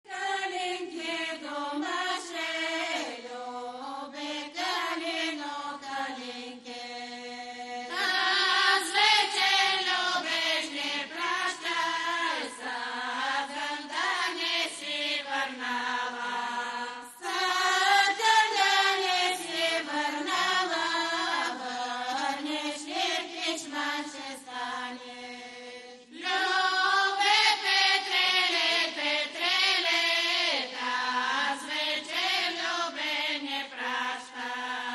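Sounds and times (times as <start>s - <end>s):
women's choir singing unaccompanied: 0.0s - 34.9s.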